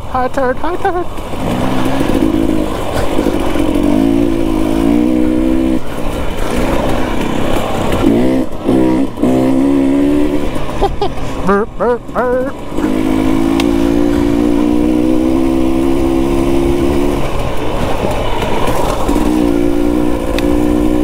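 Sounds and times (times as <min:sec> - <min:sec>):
dirt bike engine revving: 0:00.1 - 0:21.0.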